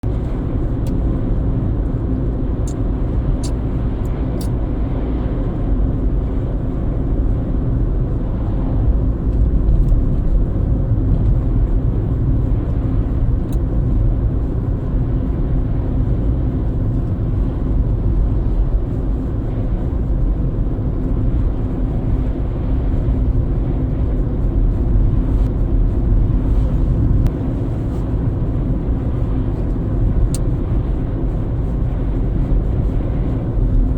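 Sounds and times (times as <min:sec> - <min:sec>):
car driving: 0:00.0 - 0:33.9.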